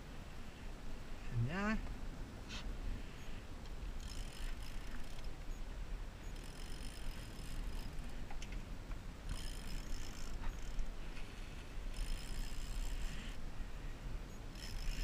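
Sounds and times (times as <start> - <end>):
water noise from moving boat: 0.0 - 15.0.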